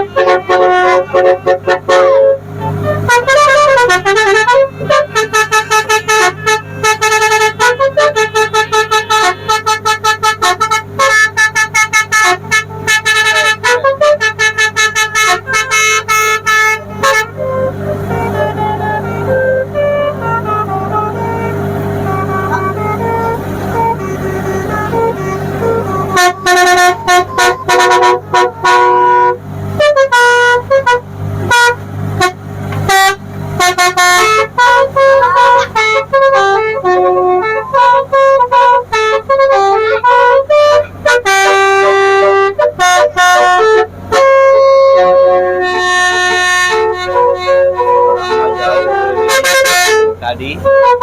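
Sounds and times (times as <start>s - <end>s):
musical horn playing a tune: 0.0s - 51.0s.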